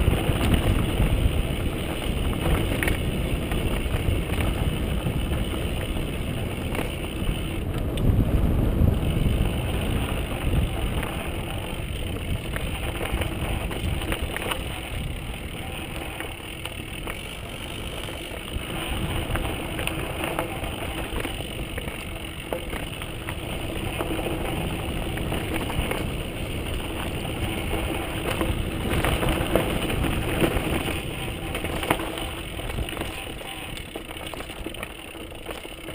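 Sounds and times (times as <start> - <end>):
bike rattling over bumps: 0.0 - 35.9
tyre noise on dirt: 0.0 - 35.9
wind rumble on microphone: 0.0 - 35.9.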